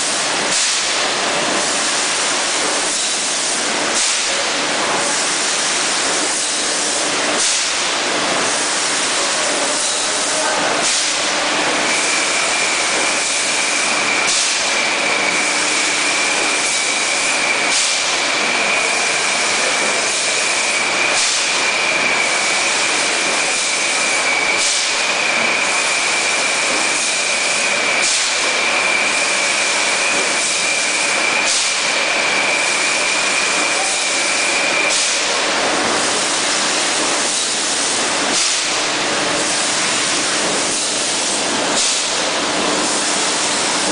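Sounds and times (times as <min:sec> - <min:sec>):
machinery hiss with clatter: 0:00.0 - 0:43.9.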